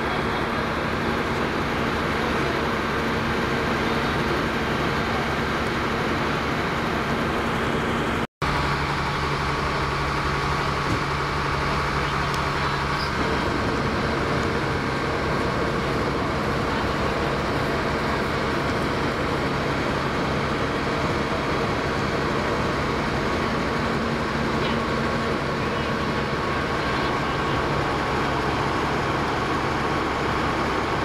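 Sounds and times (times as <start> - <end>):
engine drone: 0.0 - 31.0.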